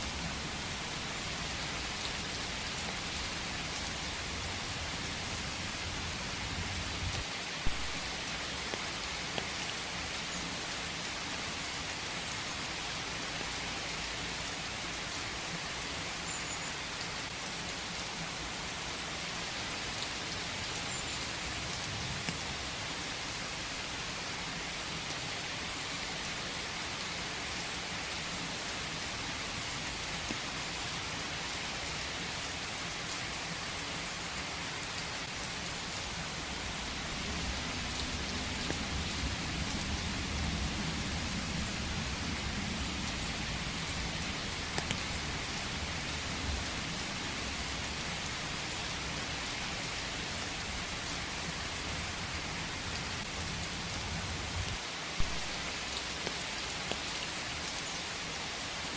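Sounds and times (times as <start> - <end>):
rain falling in forest: 0.0 - 58.9.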